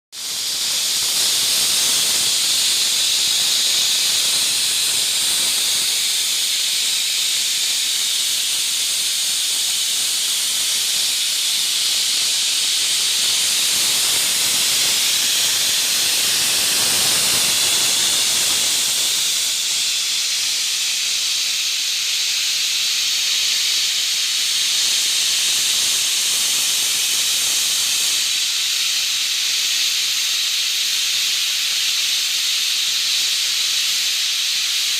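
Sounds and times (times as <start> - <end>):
steam hissing: 0.1 - 34.9.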